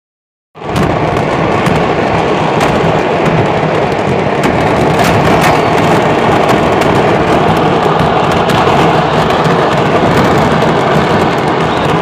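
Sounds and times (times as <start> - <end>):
fireworks barrage of bangs and crackling: 0.6 - 12.0
sharp firework cracks: 0.6 - 12.0.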